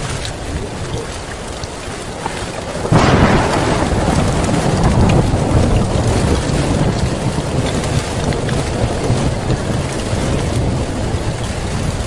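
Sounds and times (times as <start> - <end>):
heavy rain: 0.0 - 12.0
thunder clap and rumble: 0.0 - 12.0.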